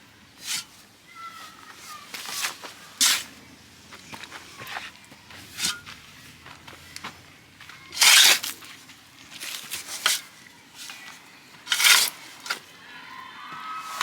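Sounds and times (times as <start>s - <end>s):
scraping packed dirt: 1.4s - 14.0s.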